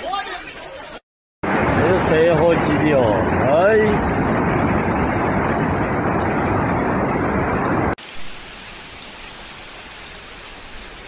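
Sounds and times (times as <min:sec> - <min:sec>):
rush of floodwater: 0:01.4 - 0:11.0.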